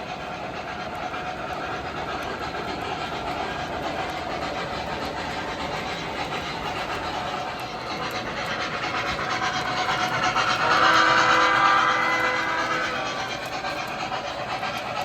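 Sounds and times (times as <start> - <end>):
model trains rolling rumble: 0.0 - 15.0.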